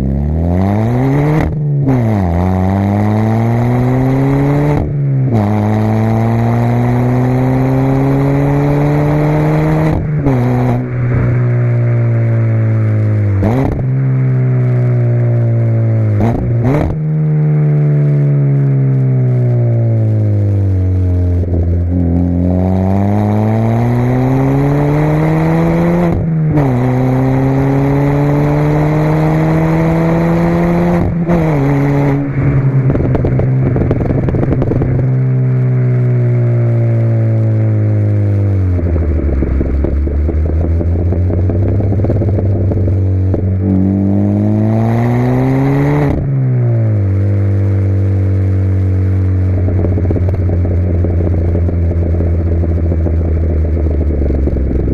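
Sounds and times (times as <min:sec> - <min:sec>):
car engine accelerating: 0:00.0 - 0:54.9
exhaust crackling: 0:00.0 - 0:54.9.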